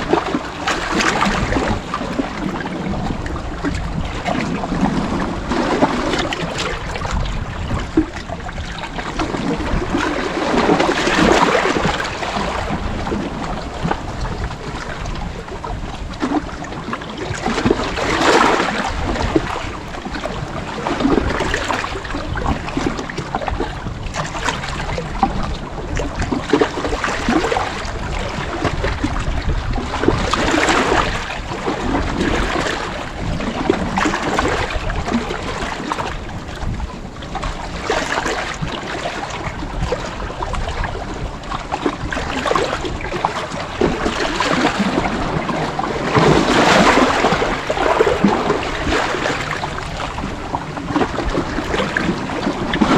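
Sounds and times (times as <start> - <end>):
sea waves washing in: 0.0 - 52.9.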